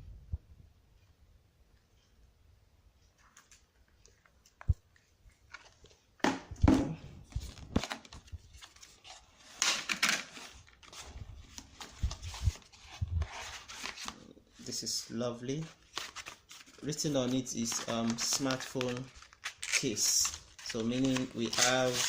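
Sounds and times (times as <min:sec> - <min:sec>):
plastic and cardboard crinkling: 0:03.2 - 0:06.2, 0:07.2 - 0:22.0.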